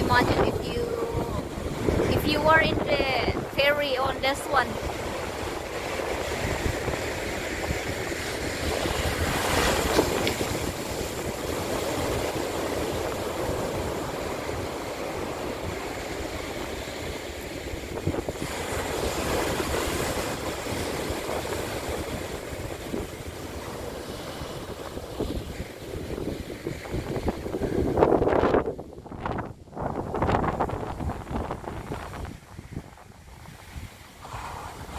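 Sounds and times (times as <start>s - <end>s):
surf breaking over boulders: 0.0s - 34.9s
wind buffeting microphone: 0.0s - 34.9s.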